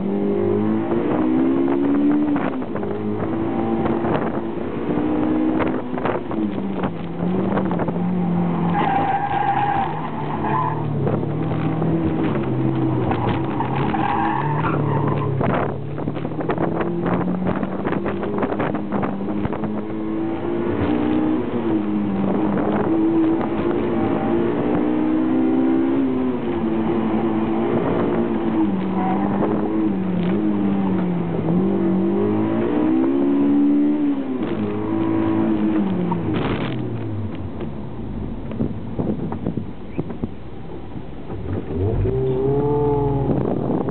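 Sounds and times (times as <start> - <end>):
car engine revving: 0.0 - 40.2, 40.8 - 43.9.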